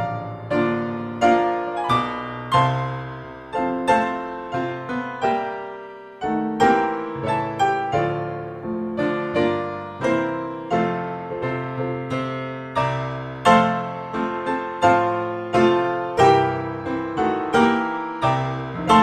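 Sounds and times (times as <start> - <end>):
slow solo piano: 0.0 - 19.0.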